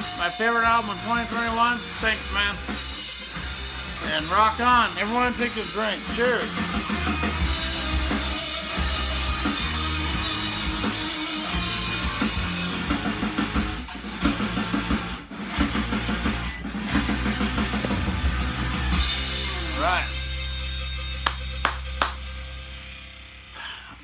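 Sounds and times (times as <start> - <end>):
rock music from vinyl record: 0.0 - 23.5.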